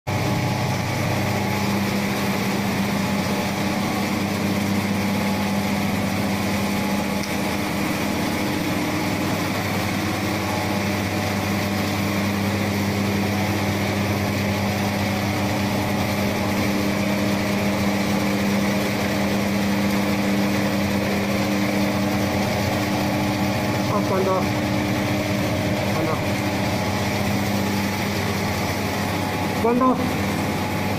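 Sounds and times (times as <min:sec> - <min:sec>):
sorting machine motor hum: 0:00.1 - 0:30.9.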